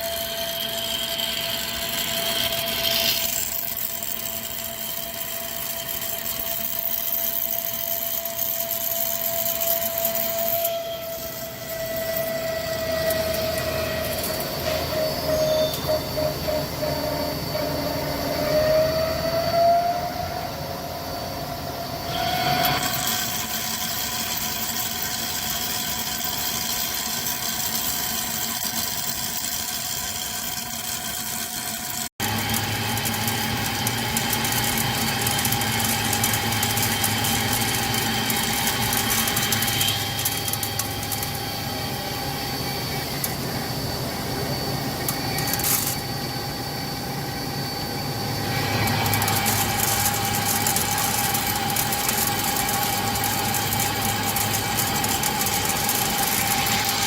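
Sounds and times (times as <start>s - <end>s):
lathe whining: 0.0s - 57.0s
metal cutting noise: 0.0s - 57.0s.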